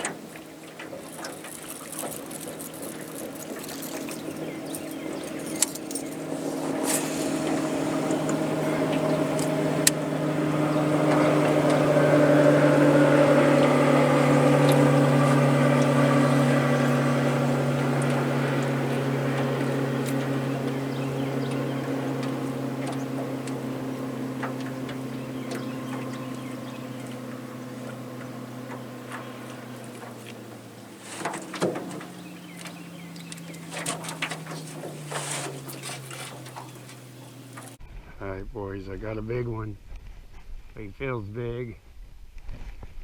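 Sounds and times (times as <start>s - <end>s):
motorboat engine droning: 0.0s - 38.0s.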